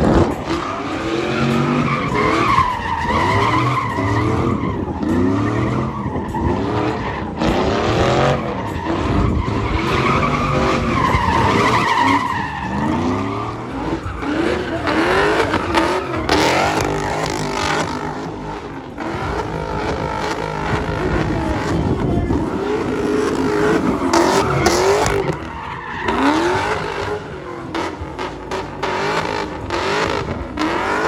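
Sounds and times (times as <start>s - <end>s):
car engines revving: 0.0s - 31.0s
tyres squealing: 0.4s - 28.9s.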